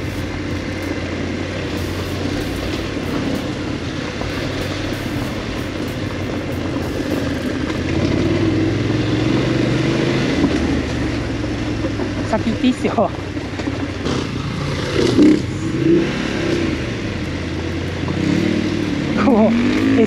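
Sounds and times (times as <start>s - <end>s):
motorcycle engine running: 0.0s - 20.0s
riding noise: 0.0s - 20.0s.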